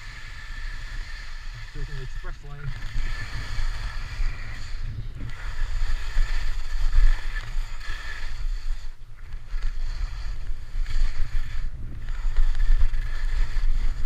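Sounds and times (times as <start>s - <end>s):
skis scraping across snow: 0.0s - 14.0s
wind rumble on microphone: 0.0s - 14.0s.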